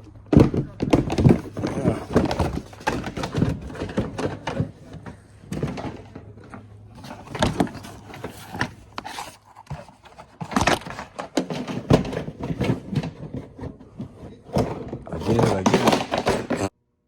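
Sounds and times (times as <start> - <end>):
plastic knocking and rattling: 0.0 - 16.7.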